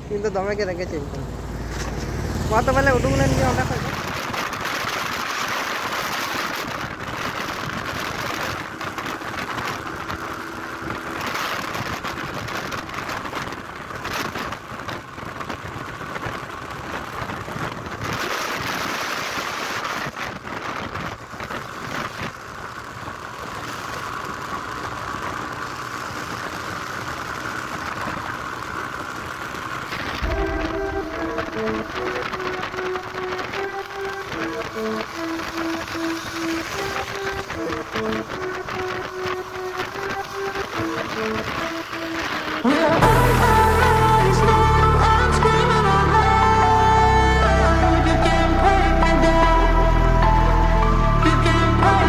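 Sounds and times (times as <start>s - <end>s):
motorcycle engine: 0.0s - 52.0s
wind and road noise: 0.0s - 52.0s.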